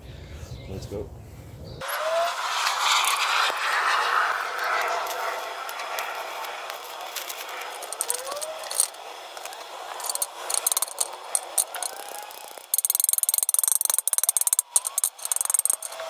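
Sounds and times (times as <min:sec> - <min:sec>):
welding arc crackling: 0:02.3 - 0:16.0.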